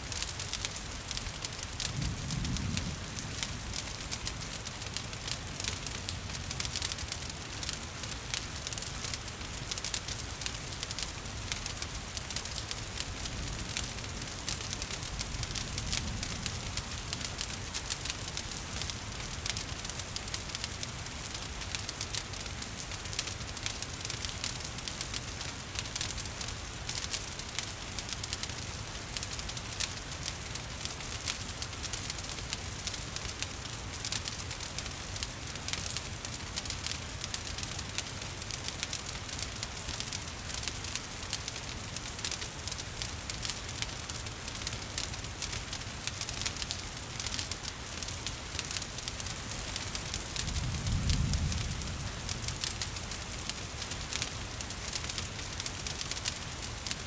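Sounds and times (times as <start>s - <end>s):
falling rain hissing: 0.0s - 57.0s
wood fire crackling and popping: 0.0s - 57.0s.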